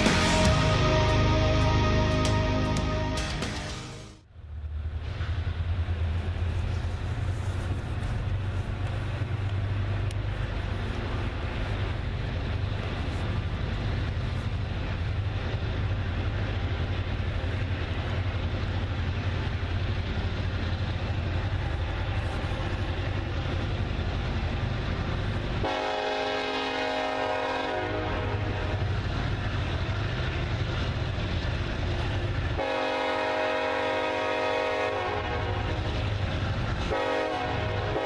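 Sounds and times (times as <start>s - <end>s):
diesel locomotive rumble: 0.0s - 38.0s.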